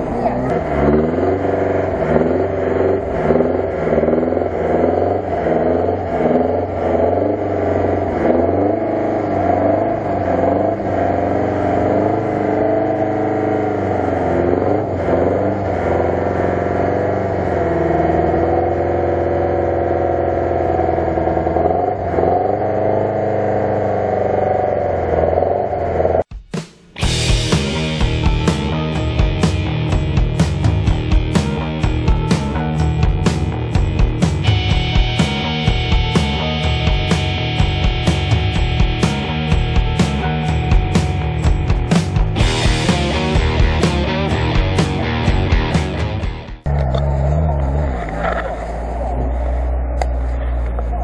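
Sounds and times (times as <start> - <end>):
jeep engine revving: 0.0 - 26.3, 27.0 - 51.0.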